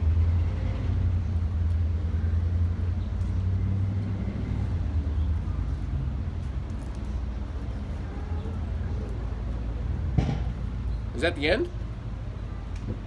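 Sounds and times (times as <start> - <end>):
vehicle engine rumble passing: 0.0 - 13.0.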